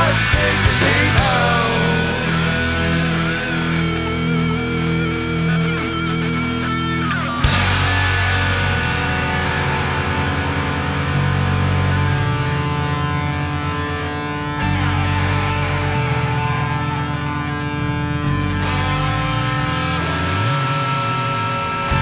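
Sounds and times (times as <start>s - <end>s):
rock music with distorted guitars: 0.0s - 22.0s.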